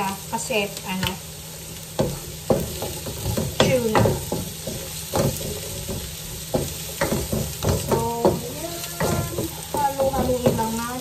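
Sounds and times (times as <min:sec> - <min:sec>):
courgette sizzling in oil: 0:00.0 - 0:11.0
wooden spoon scraping pan: 0:02.0 - 0:11.0.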